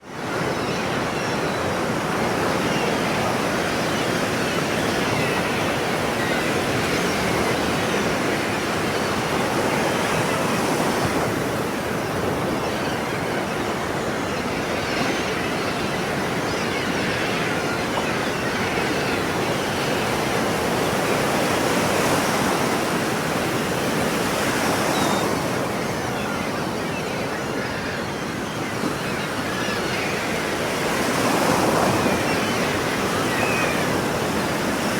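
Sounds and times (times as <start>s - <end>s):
ocean waves washing onto shore: 0.1s - 34.9s.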